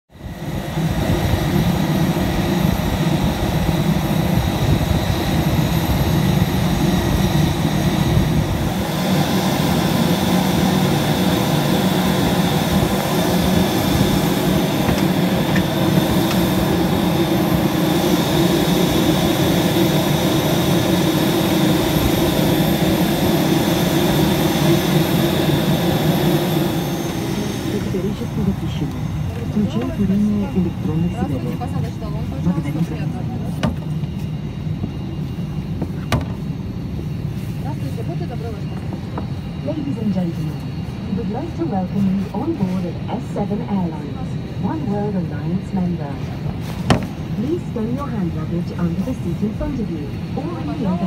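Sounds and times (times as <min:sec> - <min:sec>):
aircraft cabin hum: 0:00.4 - 0:51.0.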